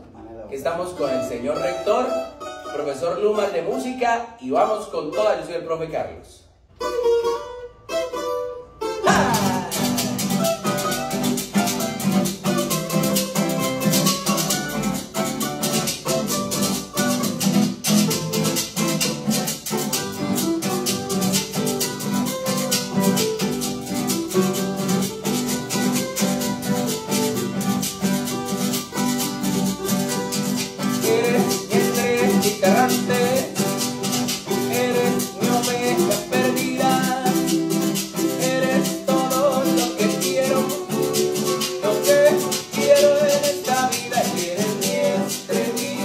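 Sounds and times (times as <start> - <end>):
strummed and plucked guitars: 0.0 - 46.0
rattling percussion: 9.0 - 46.0.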